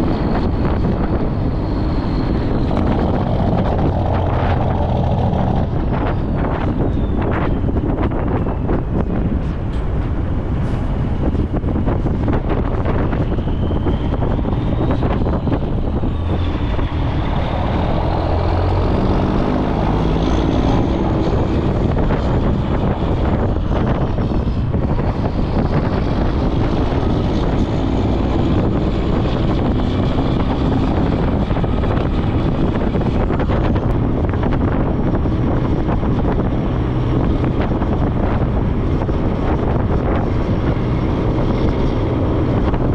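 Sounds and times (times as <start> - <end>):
heavy truck engine driving: 0.0 - 42.9
road noise: 0.0 - 42.9
wind on microphone: 0.0 - 42.9.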